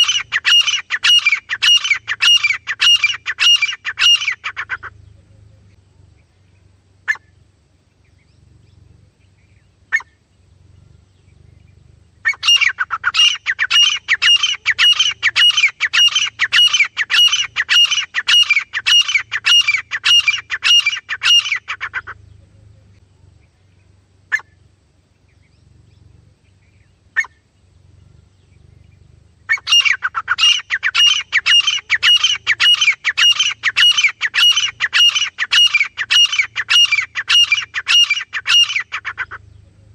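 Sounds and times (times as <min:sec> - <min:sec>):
francolin calling: 0:00.0 - 0:39.9.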